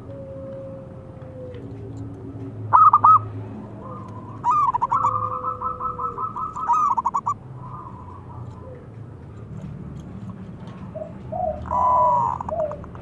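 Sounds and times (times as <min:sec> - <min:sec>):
dove cooing: 0:00.0 - 0:09.7, 0:10.6 - 0:13.0.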